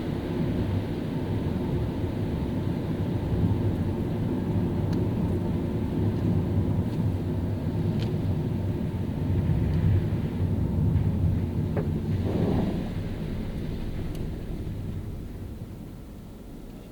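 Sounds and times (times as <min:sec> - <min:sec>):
car tyres on wet road: 0:00.0 - 0:16.9.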